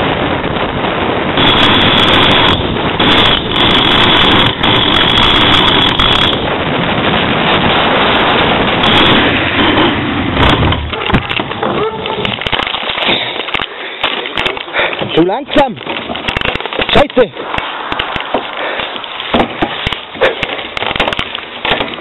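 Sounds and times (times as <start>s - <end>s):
hard wheels rumbling on asphalt: 0.0s - 22.0s.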